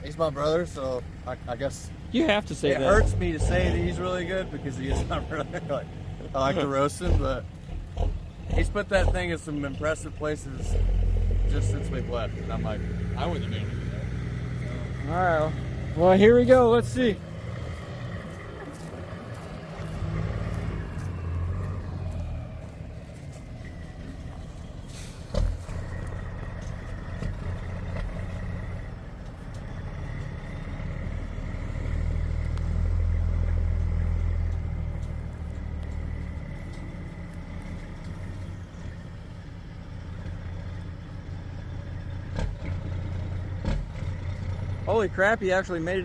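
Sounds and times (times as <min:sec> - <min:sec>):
tow vehicle engine running: 0:00.0 - 0:46.0.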